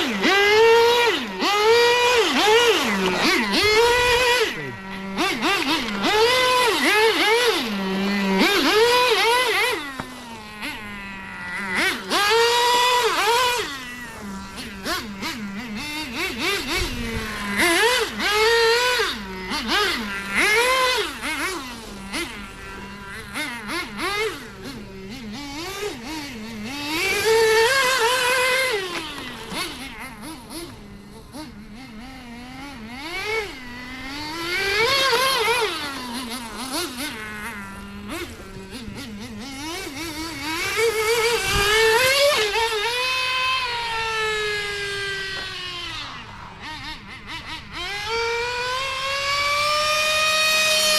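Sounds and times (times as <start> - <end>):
nitro engine revving: 0.0 - 50.9.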